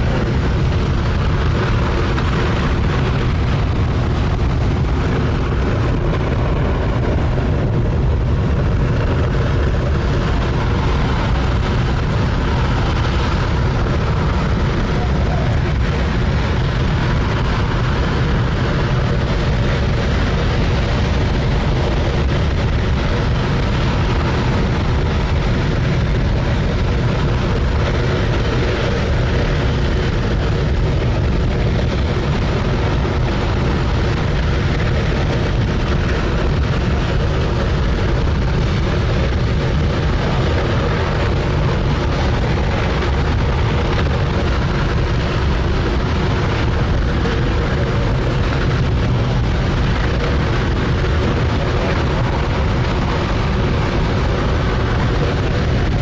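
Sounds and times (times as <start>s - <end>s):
rocket engine roaring: 0.0s - 56.0s.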